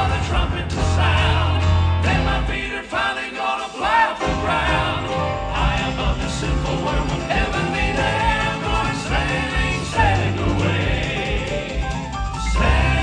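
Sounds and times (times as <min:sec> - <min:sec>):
vocal quartet singing gospel: 0:00.0 - 0:13.0.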